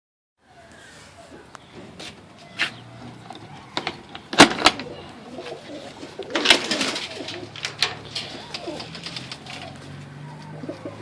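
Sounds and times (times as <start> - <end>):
pigeons cooing: 0.4 - 11.0.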